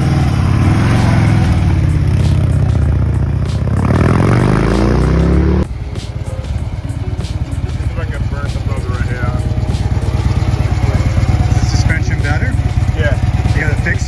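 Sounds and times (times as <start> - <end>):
motorcycle engine pulling away: 0.0 - 5.6, 6.5 - 14.0.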